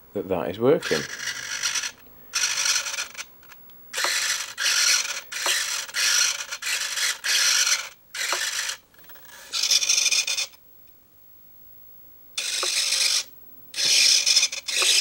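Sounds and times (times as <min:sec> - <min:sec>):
servos whirring: 0:00.8 - 0:10.6, 0:12.4 - 0:15.0.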